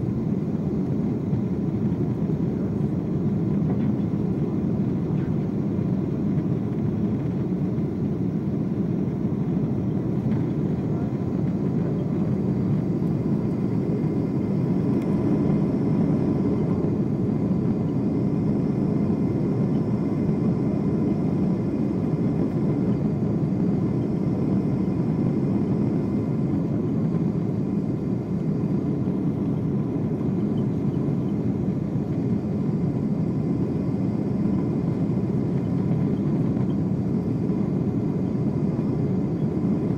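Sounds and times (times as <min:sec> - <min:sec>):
aircraft cabin engine and airflow noise: 0:00.0 - 0:39.9
faint steady whine: 0:00.0 - 0:39.9.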